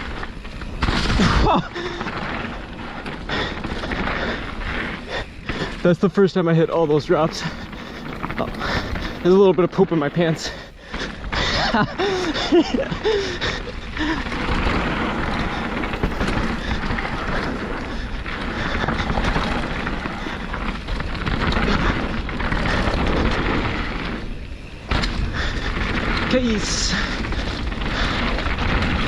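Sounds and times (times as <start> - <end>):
bike rumbling and rattling: 0.0 - 29.0
wind over microphone: 0.0 - 29.0.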